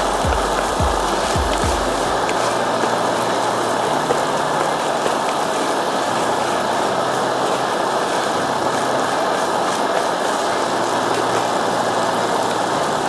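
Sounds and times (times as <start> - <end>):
camp stove roaring: 0.0 - 13.0.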